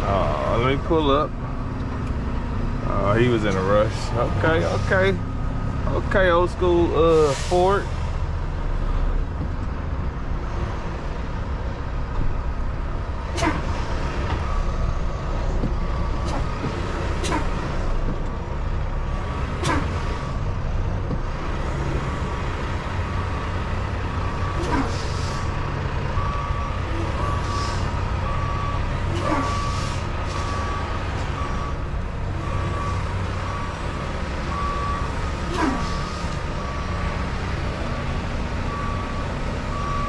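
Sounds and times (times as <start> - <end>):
diesel truck engine running: 0.0 - 40.0.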